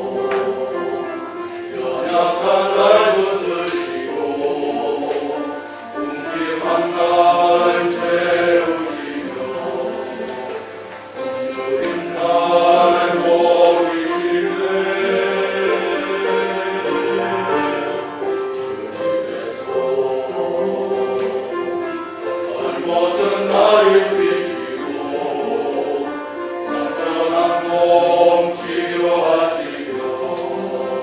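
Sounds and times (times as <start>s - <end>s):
male ensemble singing a hymn: 0.0s - 31.0s.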